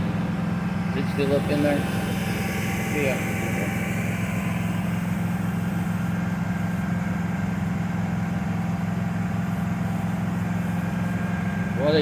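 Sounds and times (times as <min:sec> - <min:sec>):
pickup engine running steadily: 0:00.0 - 0:12.0.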